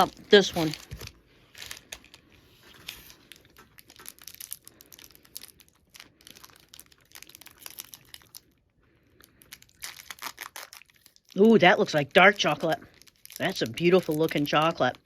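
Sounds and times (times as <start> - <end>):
candy wrapper crinkling: 0.0 - 15.0.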